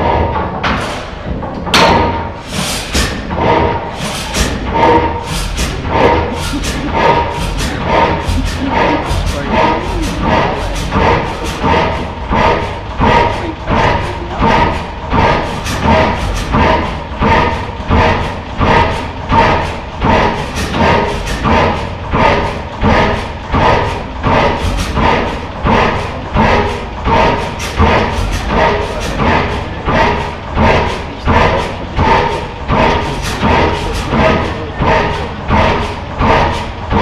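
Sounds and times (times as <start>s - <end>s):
stationary gas engine pulsing: 0.0s - 37.0s.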